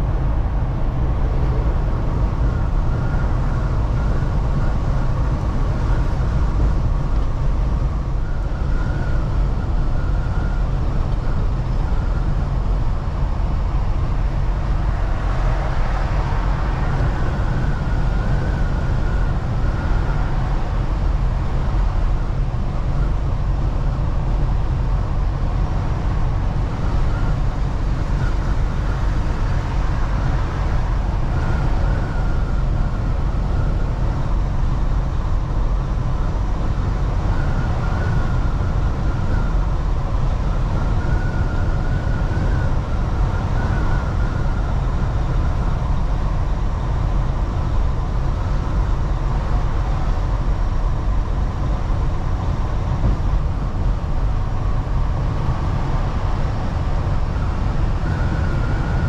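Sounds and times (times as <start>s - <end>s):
truck engine and road rumble: 0.0s - 59.0s
faint high whine: 2.4s - 59.0s.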